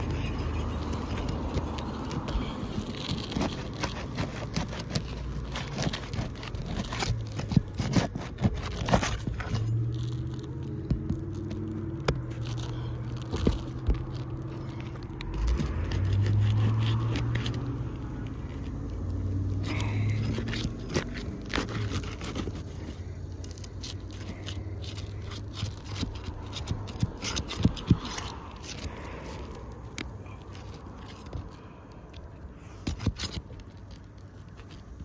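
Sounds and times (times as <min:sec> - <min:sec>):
roof shingles being scraped loose: 0:00.1 - 0:11.0, 0:12.3 - 0:17.7, 0:19.6 - 0:31.8, 0:32.6 - 0:35.0.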